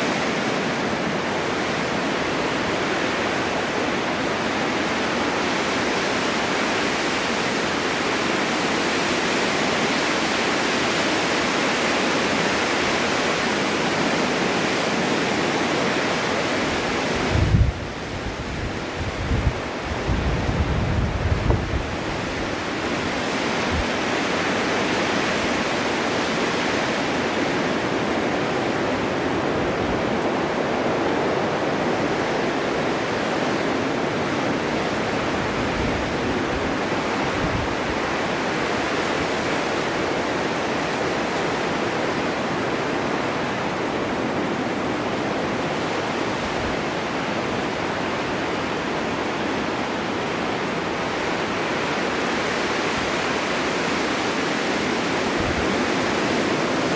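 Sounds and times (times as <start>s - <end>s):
snowstorm wind blowing: 0.0s - 56.9s.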